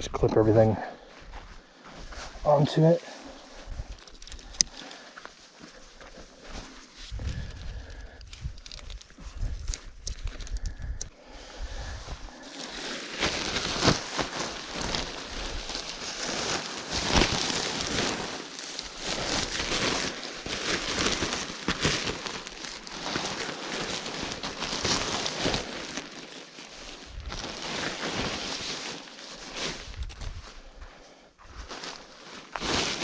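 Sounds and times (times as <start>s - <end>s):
tent fabric rustling: 1.2s - 9.6s, 11.4s - 33.0s.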